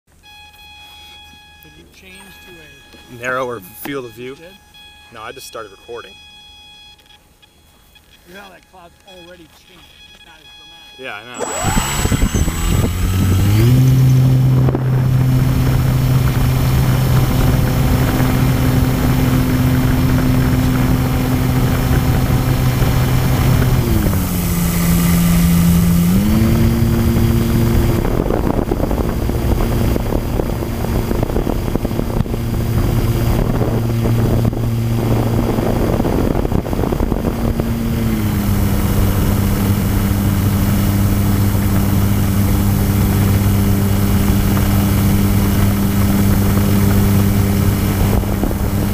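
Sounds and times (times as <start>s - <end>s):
electric propeller plane drone: 6.1s - 48.9s.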